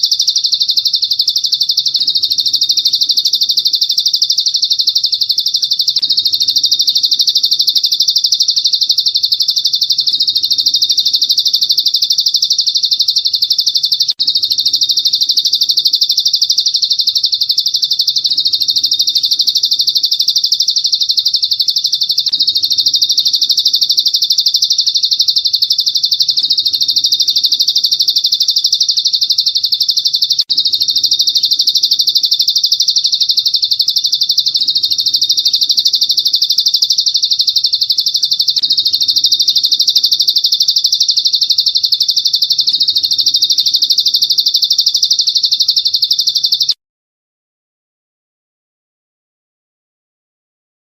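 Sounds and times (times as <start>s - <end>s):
songbird rapid high trill: 0.0s - 46.8s.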